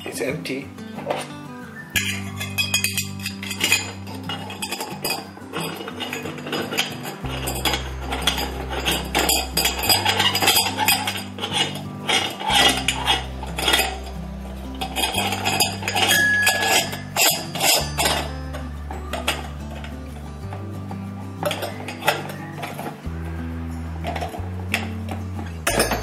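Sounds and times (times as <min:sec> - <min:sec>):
metal parts clinking and scraping: 0:00.9 - 0:26.0.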